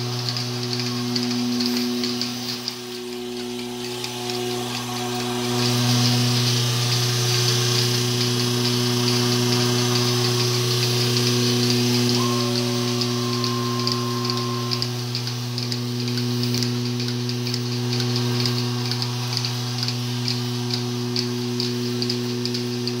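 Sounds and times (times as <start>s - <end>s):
pulsators clicking: 0.0s - 23.0s
vacuum pump humming: 0.0s - 23.0s.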